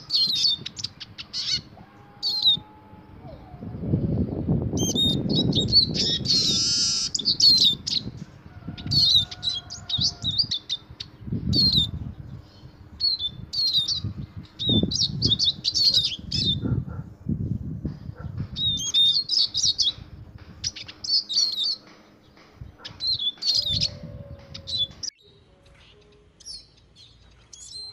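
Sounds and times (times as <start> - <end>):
bird twittering song: 0.0 - 27.9.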